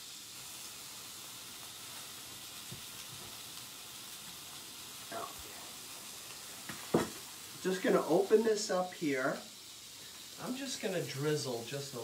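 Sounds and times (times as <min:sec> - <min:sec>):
fish sizzling on grill: 0:00.0 - 0:12.0.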